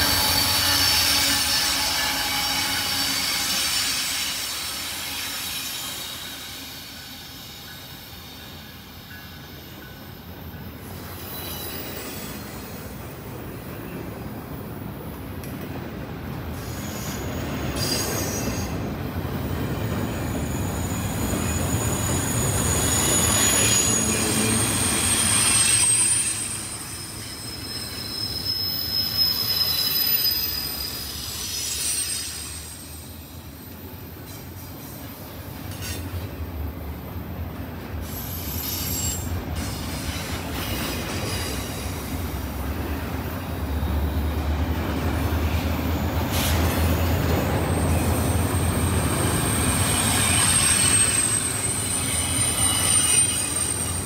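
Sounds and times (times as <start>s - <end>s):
low train rumble: 0.0s - 54.0s
train wheels squealing on rails: 0.0s - 54.0s.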